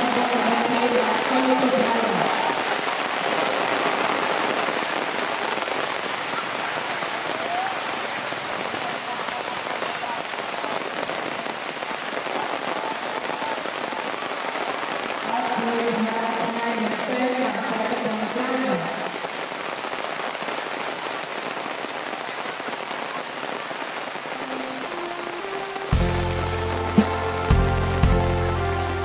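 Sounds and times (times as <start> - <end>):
heavy rain on water: 0.0 - 29.0.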